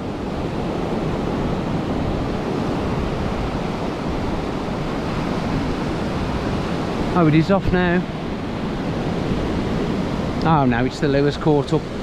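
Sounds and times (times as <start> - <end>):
sea surf breaking on beach: 0.0 - 12.0
wind rumbling on microphone: 0.0 - 12.0.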